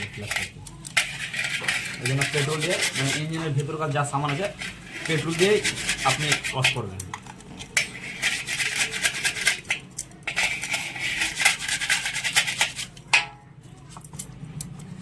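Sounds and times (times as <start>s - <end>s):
scrubbing metal parts: 0.0s - 15.0s.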